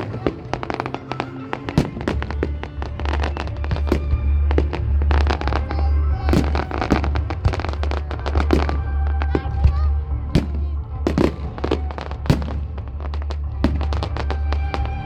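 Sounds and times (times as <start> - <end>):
fireworks crackling and banging: 0.0 - 15.0
music with deep bass: 0.0 - 15.0.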